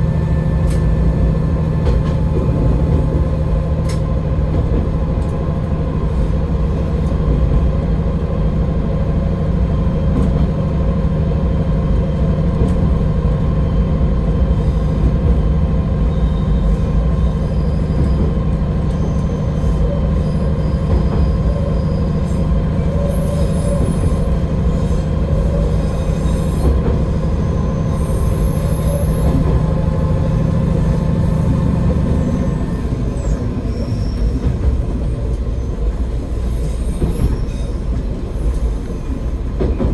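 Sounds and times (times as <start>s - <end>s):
diesel railcar engine drone: 0.0s - 39.9s.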